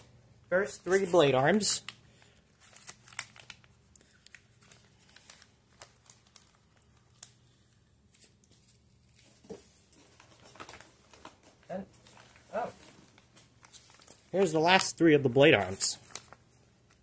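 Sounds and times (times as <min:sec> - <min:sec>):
packing material crinkling: 0:00.8 - 0:17.0.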